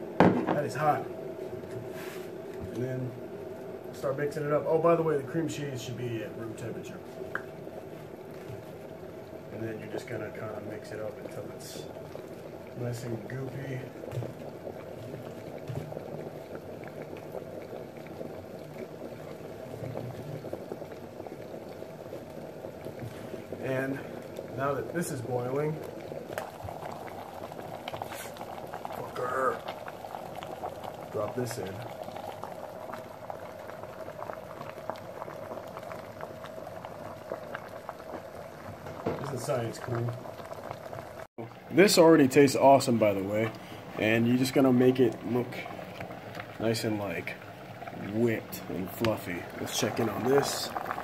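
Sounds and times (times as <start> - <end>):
water boiling in a pot: 0.0 - 51.0.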